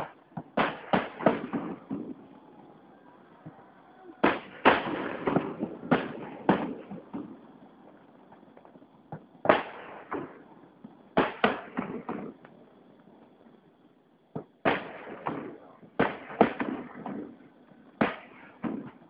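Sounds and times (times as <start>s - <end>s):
fireworks booming: 0.0s - 13.6s, 14.3s - 19.0s.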